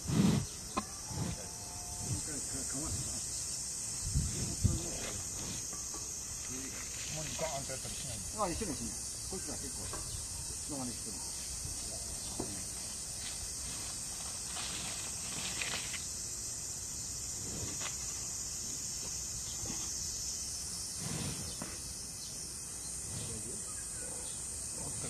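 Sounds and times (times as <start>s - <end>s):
high outdoor hiss: 0.0s - 25.0s.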